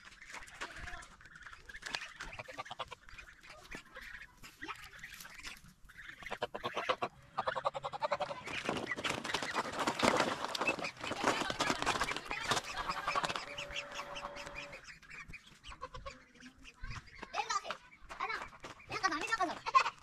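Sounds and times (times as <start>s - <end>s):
geese honking: 0.0s - 20.0s.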